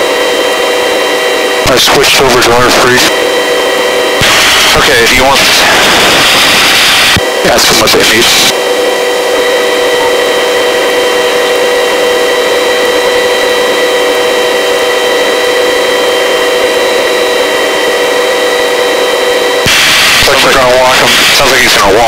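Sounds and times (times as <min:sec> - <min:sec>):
helicopter turbine whine: 0:00.0 - 0:22.0.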